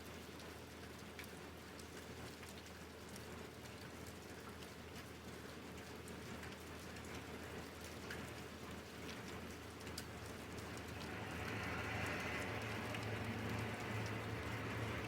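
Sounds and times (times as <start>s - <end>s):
raindrops ticking on surfaces: 0.0s - 15.0s
steady rain falling: 0.0s - 15.0s.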